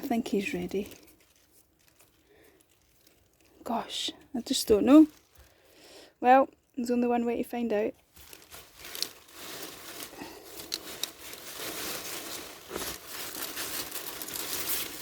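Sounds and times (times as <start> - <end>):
foliage and soil rustling and tearing: 0.0 - 5.7, 8.0 - 15.0.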